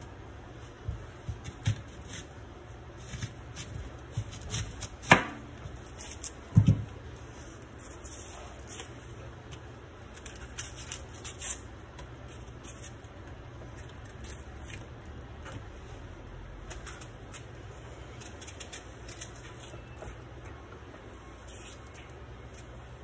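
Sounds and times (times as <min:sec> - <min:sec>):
low steady hum: 0:00.0 - 0:23.0
onion skin crackling: 0:01.4 - 0:06.6, 0:07.4 - 0:15.7, 0:16.3 - 0:20.4, 0:21.2 - 0:23.0.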